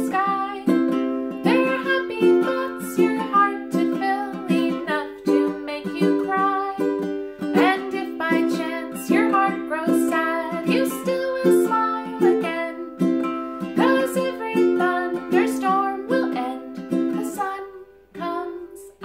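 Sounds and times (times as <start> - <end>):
ukulele strumming: 0.0 - 19.0
woman singing: 0.0 - 19.0.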